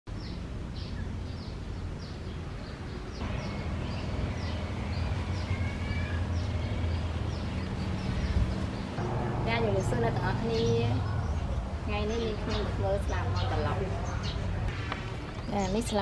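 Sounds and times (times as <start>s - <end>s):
birds chirping: 0.1s - 16.0s
low outdoor rumble: 0.5s - 16.0s.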